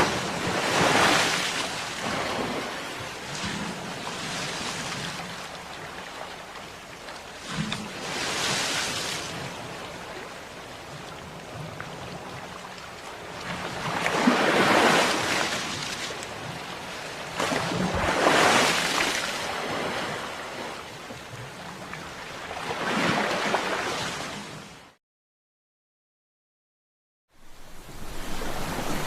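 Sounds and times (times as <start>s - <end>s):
ocean waves breaking on shore: 0.0s - 25.0s, 27.4s - 29.0s.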